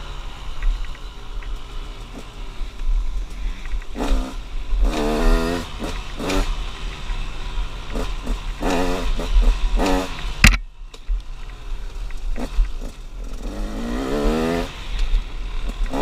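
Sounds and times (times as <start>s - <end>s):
dirt bike engine revving: 0.0s - 10.6s, 11.5s - 16.0s
low wind rumble: 0.0s - 16.0s.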